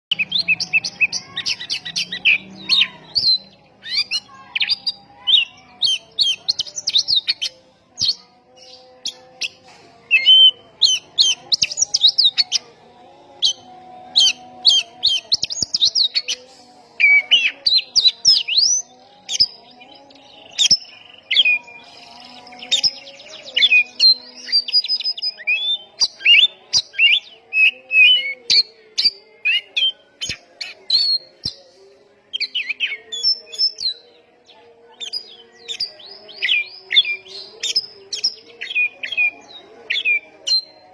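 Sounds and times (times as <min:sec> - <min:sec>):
bird singing chirps and trills: 0:00.0 - 0:40.9.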